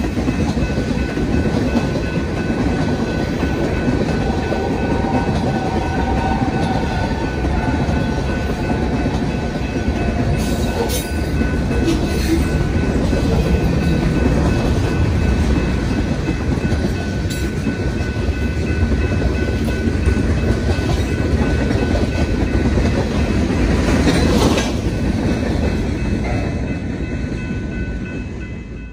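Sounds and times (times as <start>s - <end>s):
freight train cars rumbling: 0.0s - 28.9s
train clanks: 0.0s - 28.9s.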